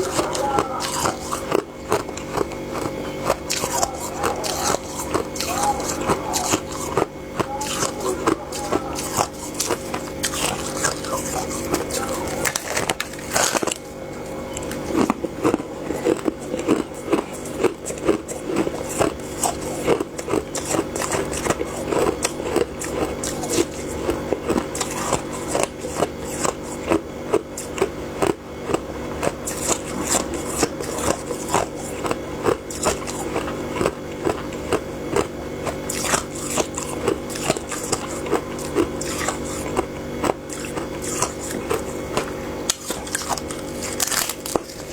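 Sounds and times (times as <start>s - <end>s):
crunchy chewing of frost: 0.0s - 44.9s
steady low hum: 0.0s - 44.9s.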